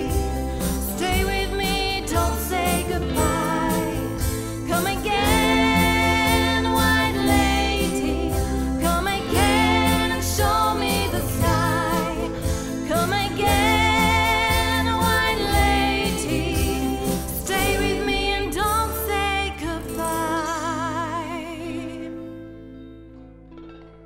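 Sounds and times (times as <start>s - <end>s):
sustained instrumental backing: 0.0s - 21.3s
woman singing with vibrato: 0.0s - 22.3s.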